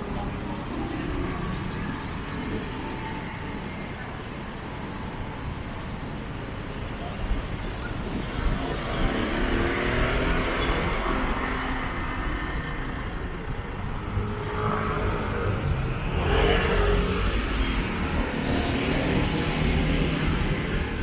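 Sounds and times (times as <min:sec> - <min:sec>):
traffic hum: 0:00.0 - 0:21.0
vehicle engines passing: 0:00.0 - 0:21.0.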